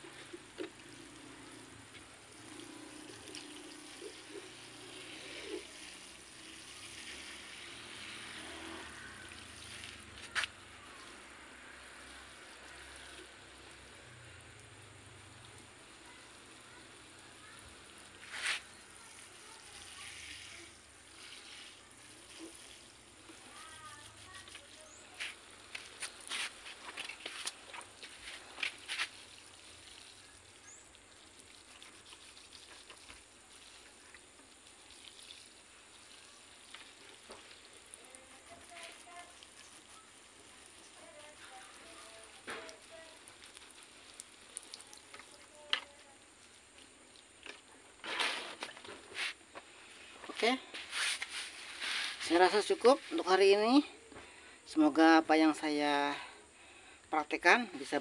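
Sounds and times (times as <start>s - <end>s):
water sprinkling onto soil: 0.0s - 53.8s.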